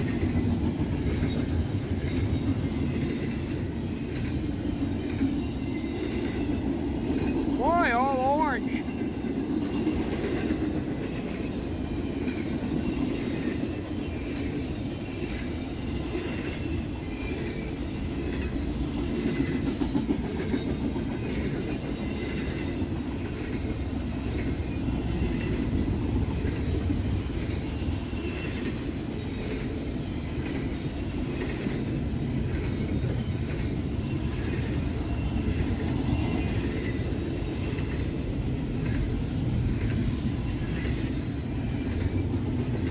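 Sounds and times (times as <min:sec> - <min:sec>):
freight train rumbling: 0:00.0 - 0:42.9.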